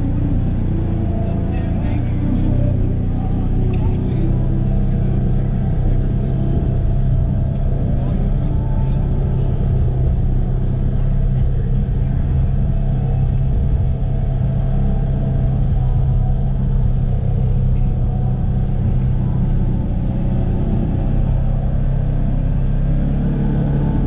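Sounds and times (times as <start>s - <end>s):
engine running with low hum: 0.0s - 24.0s.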